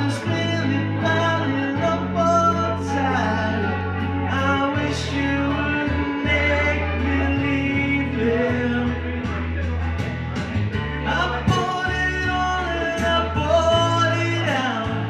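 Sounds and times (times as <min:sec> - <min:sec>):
backing track with bass and guitar: 0:00.0 - 0:15.0
man singing karaoke: 0:00.0 - 0:15.0.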